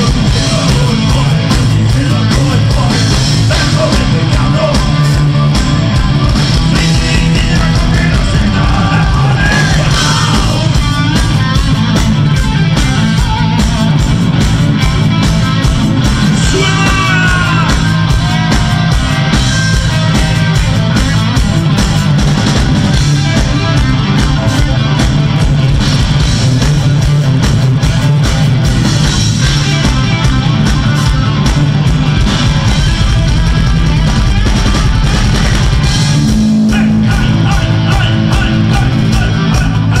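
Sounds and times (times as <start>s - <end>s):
bass guitar: 0.0s - 40.0s
drum kit steady beat: 0.0s - 40.0s
electric guitars: 0.0s - 40.0s.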